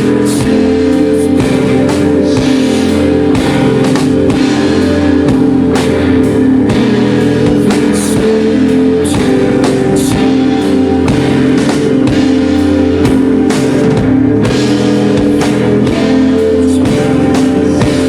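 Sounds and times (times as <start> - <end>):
drum kit with cymbal crashes: 0.0 - 18.0
electric guitar chords: 0.0 - 18.0.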